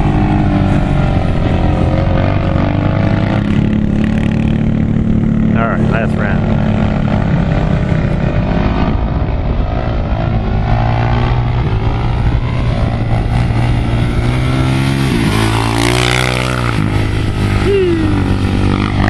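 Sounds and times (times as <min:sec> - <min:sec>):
quad bike engine running hard: 0:00.0 - 0:10.2, 0:11.1 - 0:19.0.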